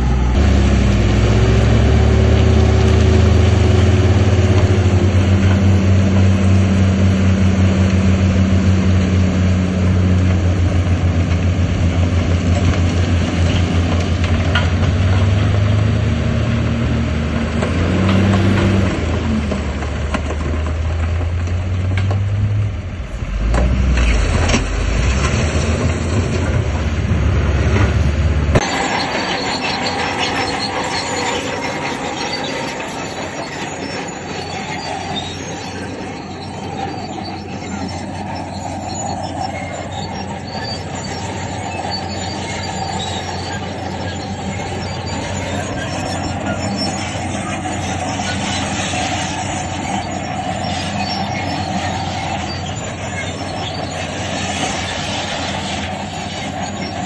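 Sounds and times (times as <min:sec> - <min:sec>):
bulldozer diesel engine under load: 0:00.0 - 0:57.0
crawler tracks squealing and clanking: 0:00.0 - 0:57.0.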